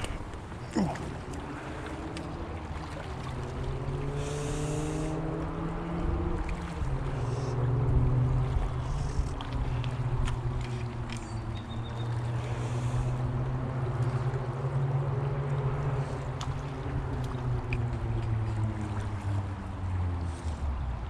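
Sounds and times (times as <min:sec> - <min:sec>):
creek water flowing: 0:00.0 - 0:21.0
low motor-like drone: 0:00.0 - 0:21.0.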